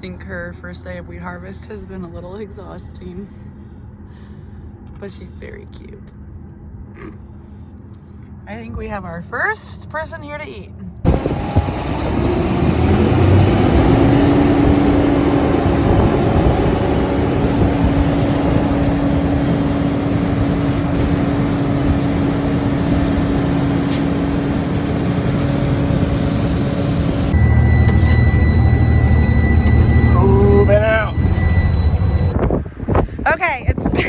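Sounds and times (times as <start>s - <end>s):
engine humming: 0.0s - 34.0s.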